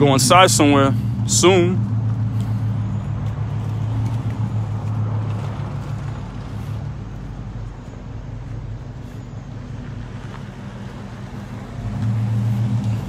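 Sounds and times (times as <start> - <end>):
pickup truck engine running: 0.0 - 13.0
tyre noise on road: 0.0 - 13.0.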